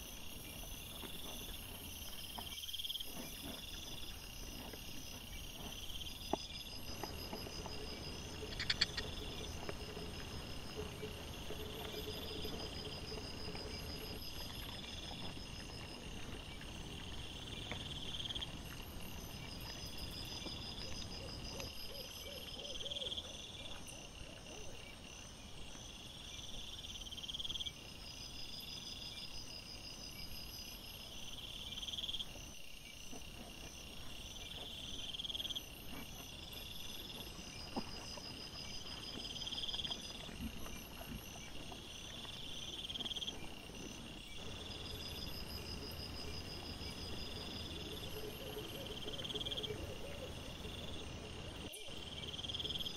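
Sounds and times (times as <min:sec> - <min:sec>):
night insects trilling: 0:00.0 - 0:52.9.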